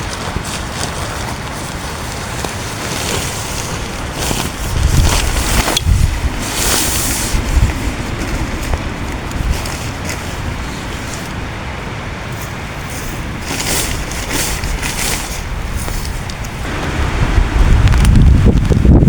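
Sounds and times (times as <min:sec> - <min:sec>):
heavy rain on a tent: 0:00.0 - 0:19.0
strong wind gusts: 0:00.0 - 0:19.0.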